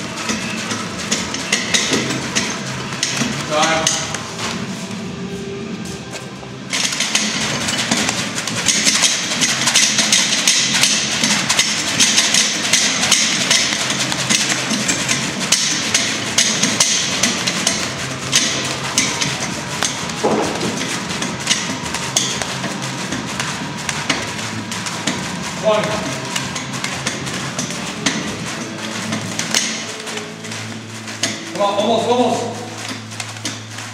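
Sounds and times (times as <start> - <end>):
battling ropes slapping concrete floor: 0.0 - 33.9.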